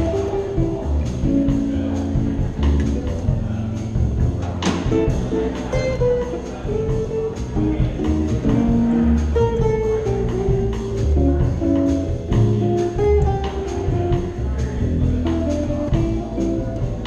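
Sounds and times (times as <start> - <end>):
drum kit with cymbals: 0.0 - 17.0
upright double bass: 0.0 - 17.0.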